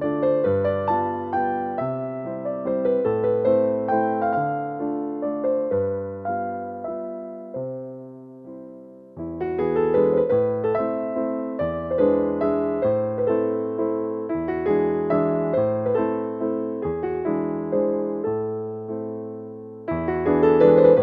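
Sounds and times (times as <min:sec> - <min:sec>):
electric piano melody: 0:00.0 - 0:21.0.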